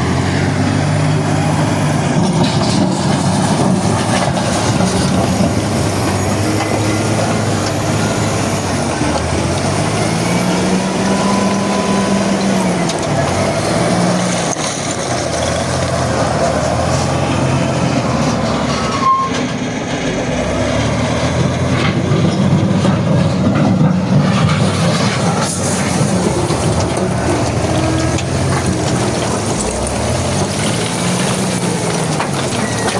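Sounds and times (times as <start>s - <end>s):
diesel engine revving: 0.0s - 32.9s
rock crusher rumbling: 0.0s - 32.9s.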